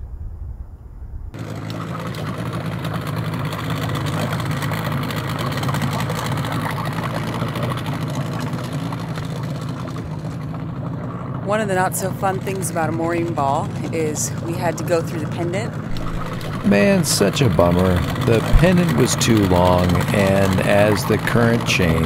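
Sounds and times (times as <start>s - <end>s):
boat engine idling: 1.4s - 22.0s.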